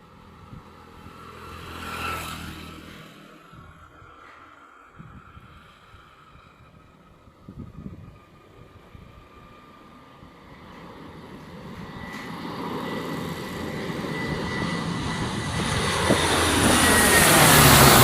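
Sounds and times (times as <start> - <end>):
high engine whine: 0.0 - 18.0
turboprop aircraft engines: 0.0 - 18.0.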